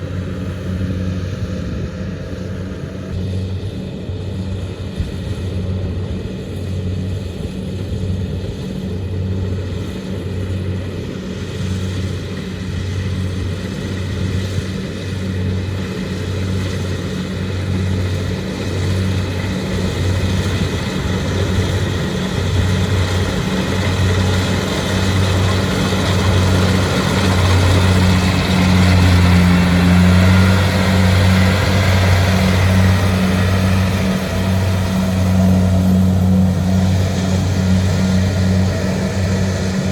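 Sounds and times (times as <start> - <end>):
diesel engine throbbing: 0.0 - 39.9
machine rattle and whir: 0.0 - 39.9.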